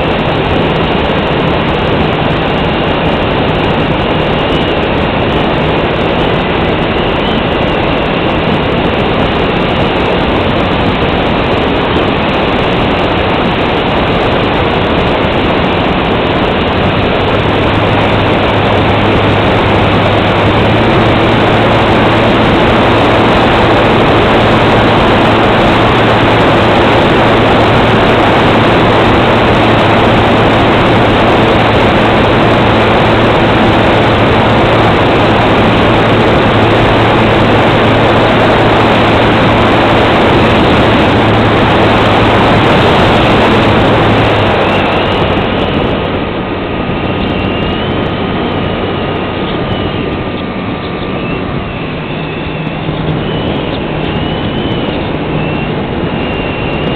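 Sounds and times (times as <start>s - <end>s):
airflow rushing over camera: 0.0s - 56.9s
electric motor and propeller hum: 0.0s - 56.9s.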